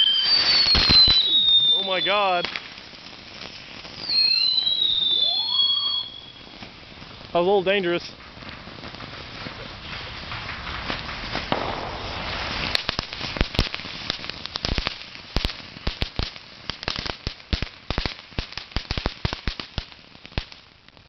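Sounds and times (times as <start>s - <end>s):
fireworks crackling pops: 0.0s - 21.0s
fireworks spraying sparks: 0.0s - 21.0s.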